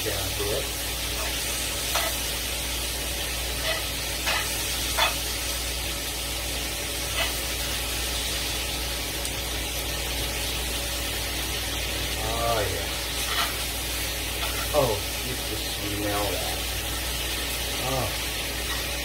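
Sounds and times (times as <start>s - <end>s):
meat sizzling in a skillet: 0.0s - 19.0s.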